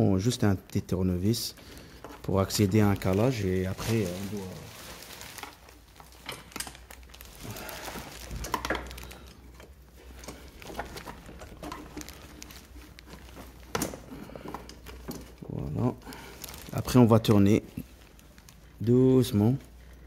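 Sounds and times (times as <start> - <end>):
plastic bag rustling: 1.2 - 20.0.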